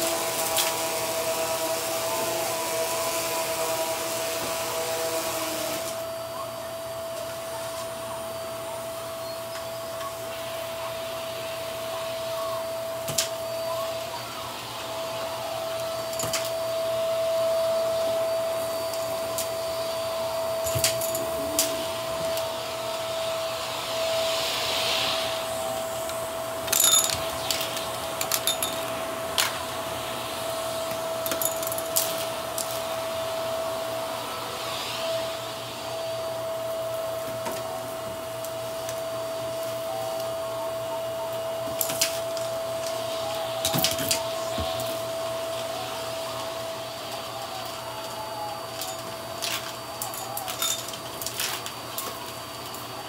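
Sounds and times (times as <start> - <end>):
vacuum cleaner running on carpet: 0.0 - 53.0.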